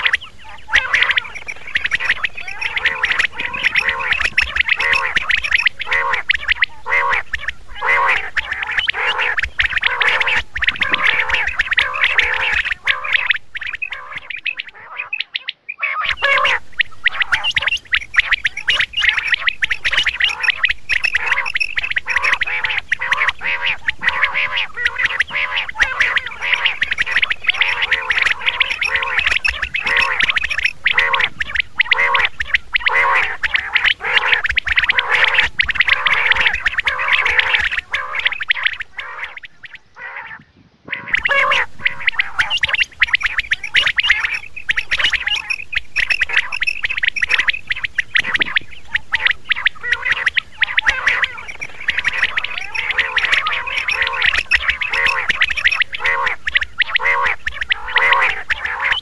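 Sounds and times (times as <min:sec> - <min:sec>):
quail calling: 0:00.0 - 0:59.0.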